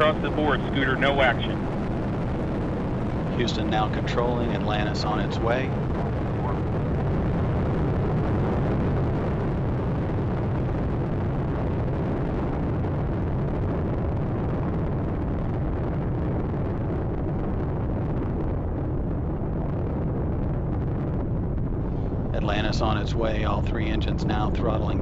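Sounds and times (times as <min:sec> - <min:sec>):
rocket launch roar: 0:00.0 - 0:25.0.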